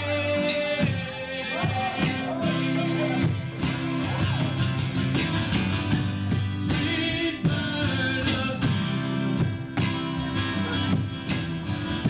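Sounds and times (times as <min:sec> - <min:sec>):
strummed acoustic guitars: 0:00.0 - 0:12.0
steady percussion beat: 0:00.8 - 0:12.0.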